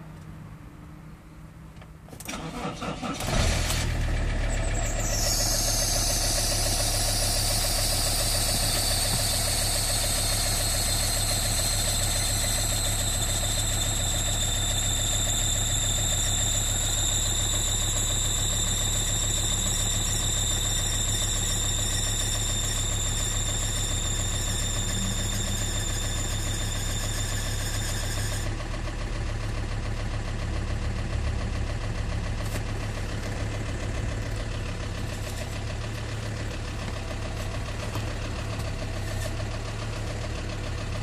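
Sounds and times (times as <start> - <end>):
vehicle engine starting and idling: 0.2 - 41.0.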